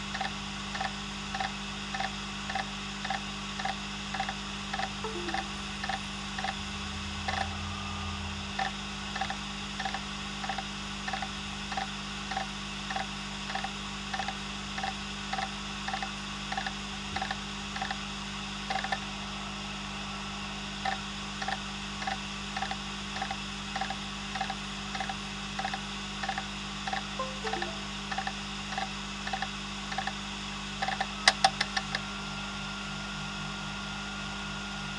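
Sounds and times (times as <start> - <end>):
hard drive motor hum: 0.0 - 33.5.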